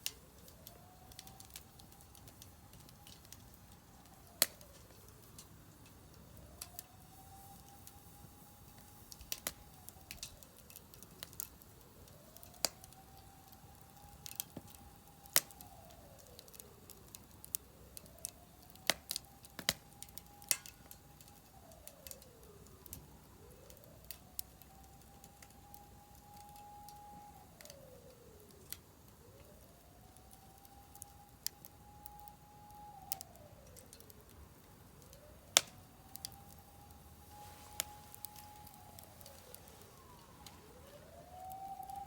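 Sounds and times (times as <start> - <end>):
firewood crackling and popping: 0.0 - 42.0
siren wailing: 0.0 - 42.0.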